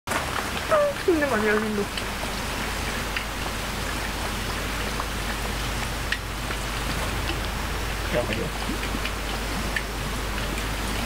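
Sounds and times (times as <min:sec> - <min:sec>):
steady outdoor hiss: 0:00.2 - 0:11.0.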